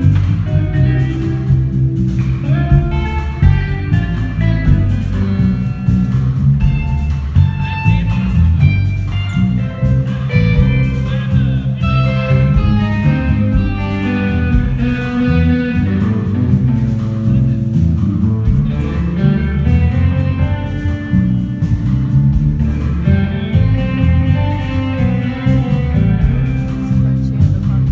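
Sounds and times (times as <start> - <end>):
rock band playing live: 0.0 - 27.9.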